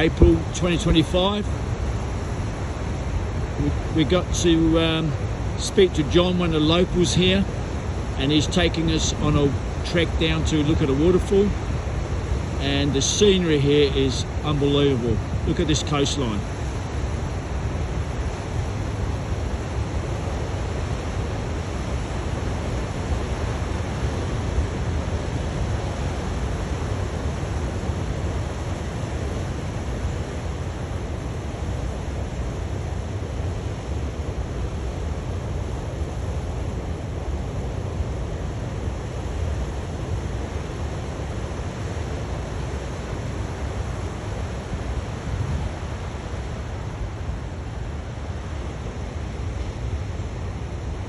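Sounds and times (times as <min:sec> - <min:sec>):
surf: 0:00.0 - 0:51.0.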